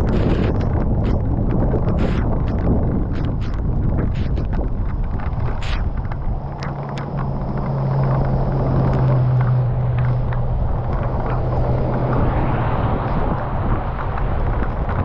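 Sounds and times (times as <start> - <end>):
faint ticks: 0.0 - 12.2
car engine and road drone: 0.0 - 15.0.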